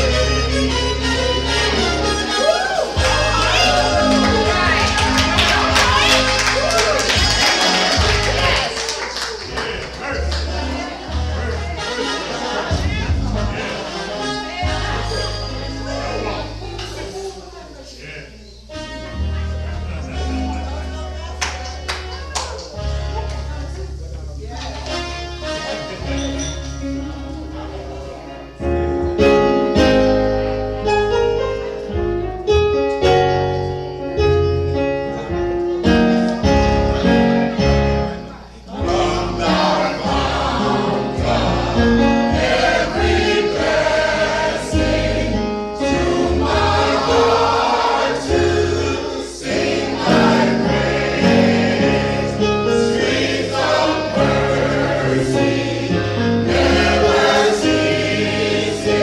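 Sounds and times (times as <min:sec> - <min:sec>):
gospel choir with instruments: 0:00.0 - 0:17.4, 0:22.7 - 0:59.0.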